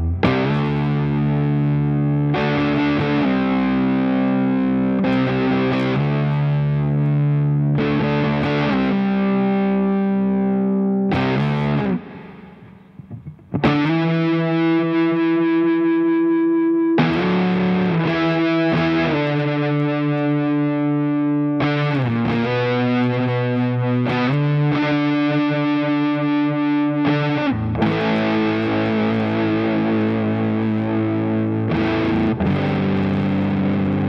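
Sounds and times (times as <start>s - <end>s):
fuzzed electric guitar lead: 0.0s - 34.0s.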